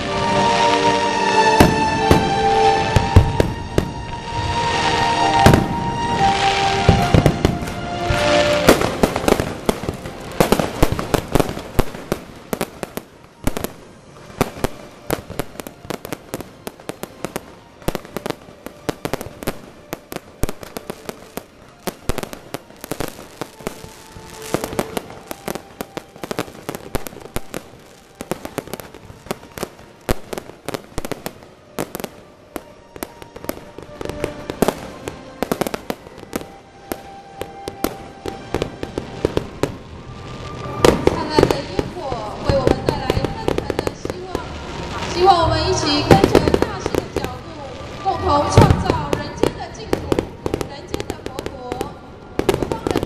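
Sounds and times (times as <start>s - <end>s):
fireworks bangs and crackles: 0.0s - 53.0s
music: 0.0s - 53.0s.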